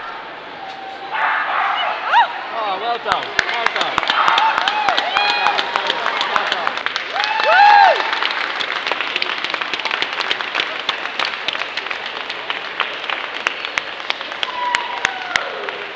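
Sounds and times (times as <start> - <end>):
audience clapping: 2.9 - 15.9.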